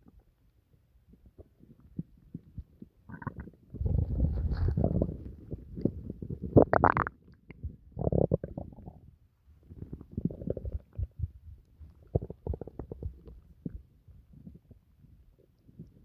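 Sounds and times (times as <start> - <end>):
stomach gurgling and rumbling: 1.1 - 16.0.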